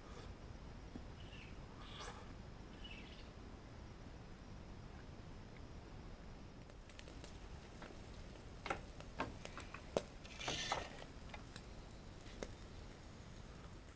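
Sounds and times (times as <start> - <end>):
low steady rumble: 0.0 - 13.9.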